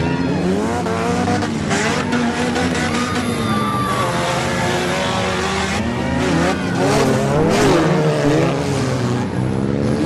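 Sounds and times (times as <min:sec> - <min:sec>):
car engines revving hard: 0:00.0 - 0:10.0.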